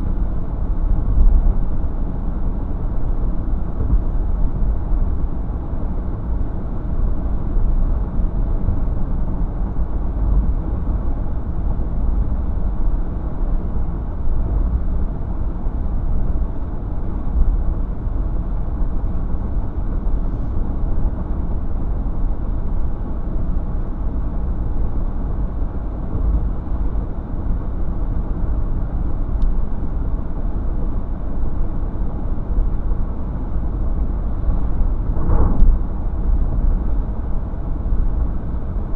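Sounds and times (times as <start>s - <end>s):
vehicle in motion rumble: 0.0s - 38.9s.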